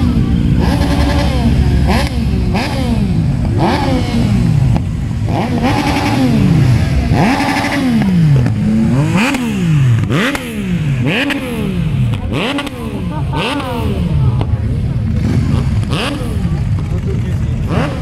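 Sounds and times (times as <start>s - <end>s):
motorcycles passing with revving: 0.0s - 18.0s.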